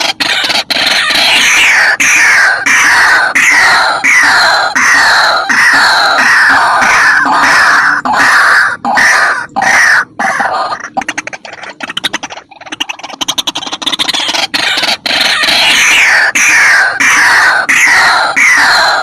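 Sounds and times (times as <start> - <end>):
fast rattling call: 0.0 - 19.0
loud croaking calls: 0.0 - 19.0
waterhen harsh calls: 0.0 - 19.0.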